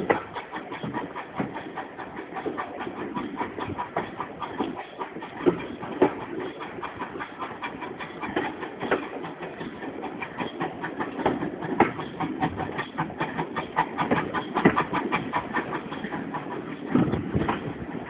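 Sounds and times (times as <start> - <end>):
steady train running noise: 0.0 - 18.0
train wheels clicking over rail joints: 0.0 - 18.0.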